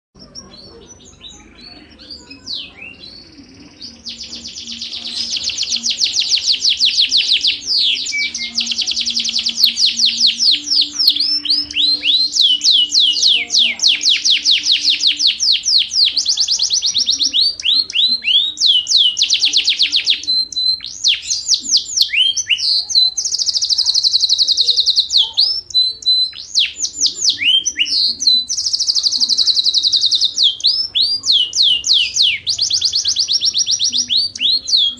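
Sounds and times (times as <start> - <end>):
canary singing fast trills: 0.2 - 34.9.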